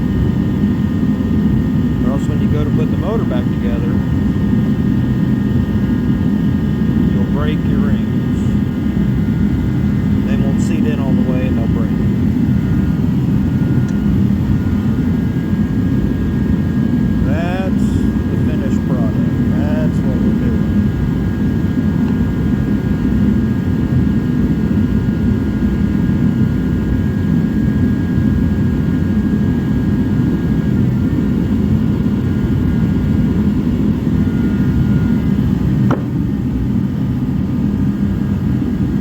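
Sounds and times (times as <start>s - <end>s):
faint whine: 0.0s - 26.0s, 26.8s - 39.0s
shop heater roaring: 0.0s - 39.0s.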